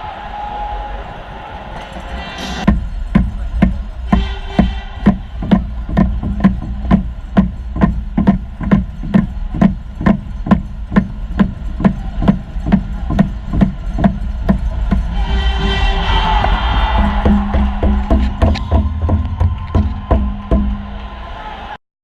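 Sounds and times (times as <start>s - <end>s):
drum beaten steadily: 2.0s - 21.0s.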